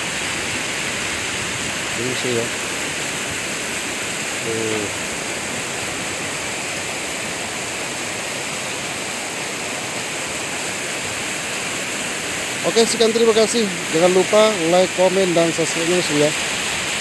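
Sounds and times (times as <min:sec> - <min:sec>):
rushing floodwater river: 0:00.0 - 0:17.0.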